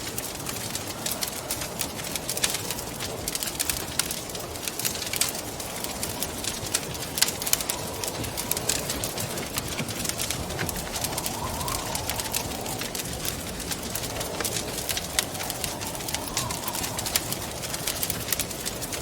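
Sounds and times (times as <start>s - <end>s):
fire pops and snaps: 0.0s - 19.0s
rushing wind: 0.0s - 19.0s
wood fire crackling: 0.0s - 19.0s.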